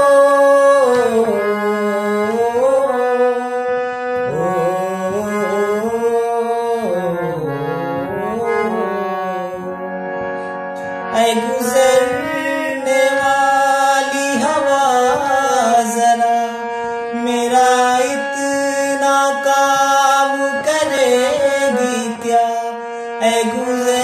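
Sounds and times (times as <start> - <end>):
harmonium melody: 0.0 - 24.0
person singing: 0.0 - 24.0.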